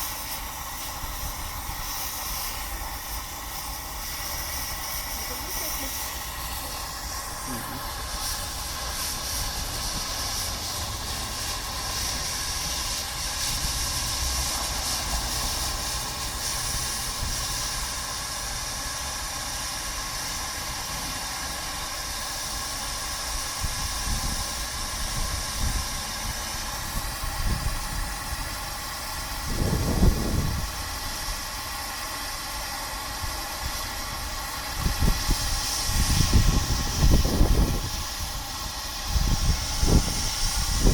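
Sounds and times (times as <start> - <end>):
rough low rushes of steam: 0.0 - 40.9
steam locomotive hissing: 0.0 - 40.9.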